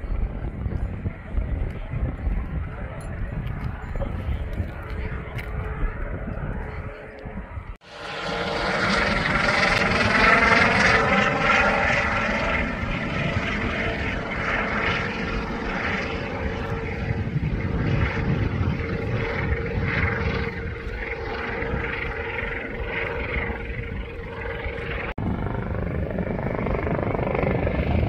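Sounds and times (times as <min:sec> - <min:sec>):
helicopter rotor and engine: 0:00.0 - 0:28.0.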